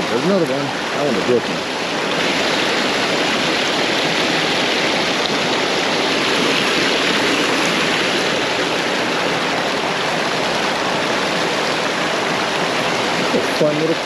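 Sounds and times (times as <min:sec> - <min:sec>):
small stream flowing: 0:00.0 - 0:14.0.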